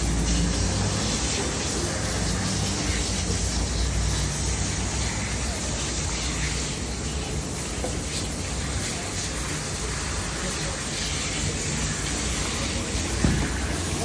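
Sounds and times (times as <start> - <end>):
fish scaler spraying water: 0.0 - 14.0.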